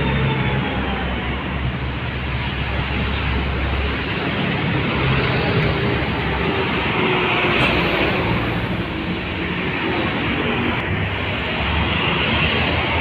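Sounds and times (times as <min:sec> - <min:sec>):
truck engines droning: 0:00.0 - 0:13.0
truck passing close by: 0:00.0 - 0:13.0.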